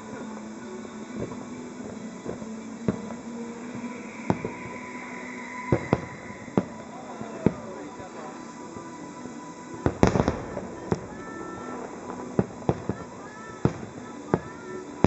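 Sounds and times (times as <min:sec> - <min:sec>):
background music: 0:00.0 - 0:15.0
firework shells bursting: 0:00.0 - 0:15.0.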